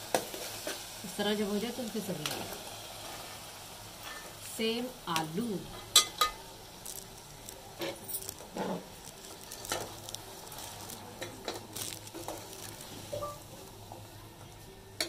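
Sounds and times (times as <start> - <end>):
light sizzle: 0.0 - 15.0.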